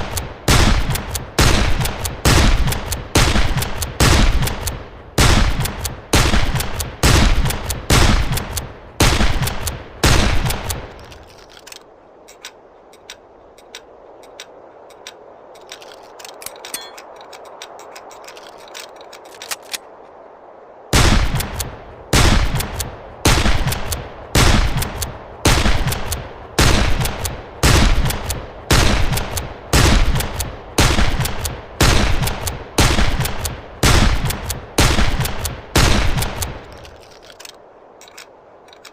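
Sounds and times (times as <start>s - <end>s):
low steady noise: 0.0s - 38.9s.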